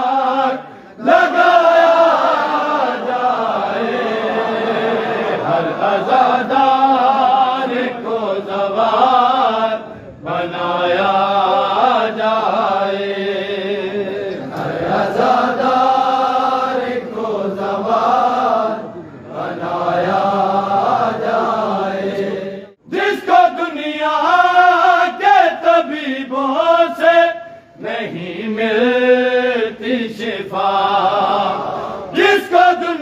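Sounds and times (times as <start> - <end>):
men chanting a lament: 0.0 - 33.0.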